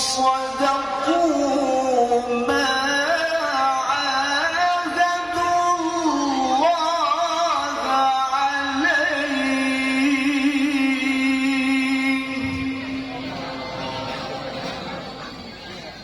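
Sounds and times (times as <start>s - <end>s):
man chanting in high voice: 0.0s - 13.2s.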